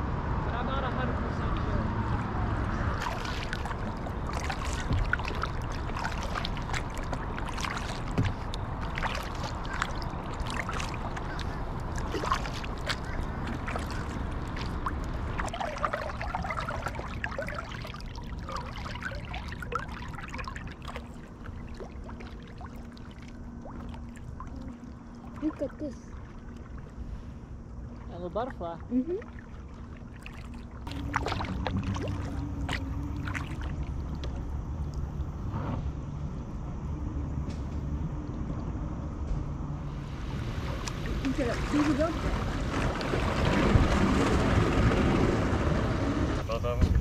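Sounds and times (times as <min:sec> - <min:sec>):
paddle splashing water: 0:02.0 - 0:35.5, 0:39.9 - 0:45.8.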